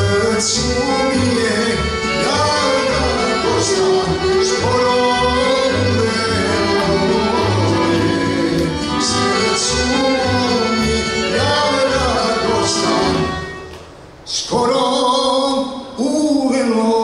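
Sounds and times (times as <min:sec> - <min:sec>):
man singing: 0:00.0 - 0:13.4, 0:14.3 - 0:17.0
accordion clarinet and guitars: 0:00.0 - 0:13.8.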